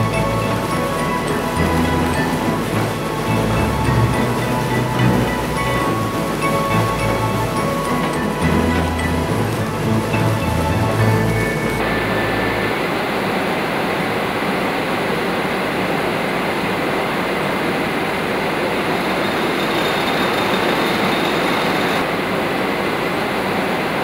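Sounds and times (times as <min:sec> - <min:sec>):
mill machinery rumbling: 0:00.0 - 0:15.2, 0:17.8 - 0:22.1.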